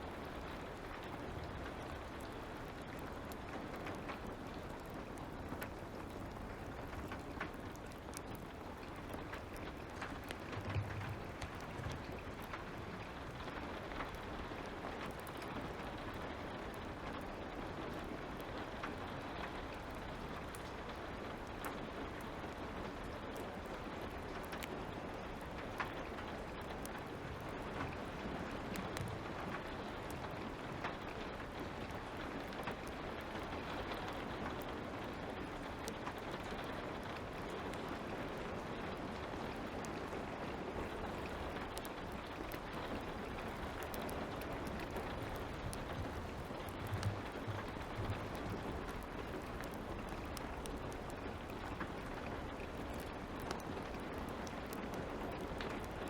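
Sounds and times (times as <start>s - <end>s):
steady light rain: 0.0s - 56.0s
wood fire crackling and popping: 0.0s - 56.0s.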